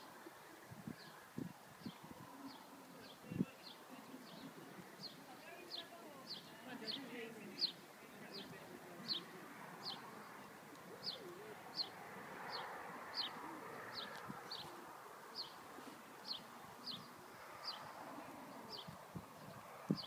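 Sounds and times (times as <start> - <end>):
soft outdoor background hiss: 0.0 - 20.0.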